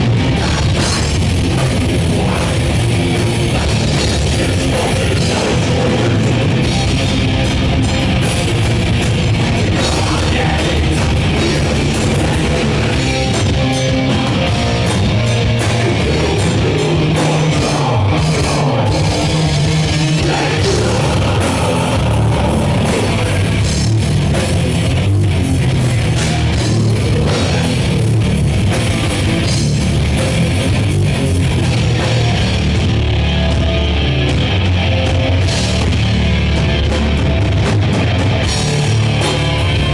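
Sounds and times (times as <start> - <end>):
bass guitar: 0.0 - 39.9
distorted electric guitars: 0.0 - 39.9
drum kit: 0.0 - 39.9.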